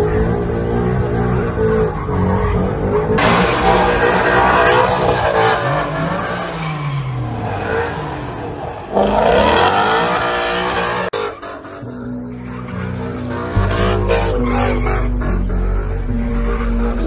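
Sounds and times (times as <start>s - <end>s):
steady low engine note: 0.0s - 6.5s, 8.0s - 17.0s
car engine revving hard: 0.0s - 17.0s.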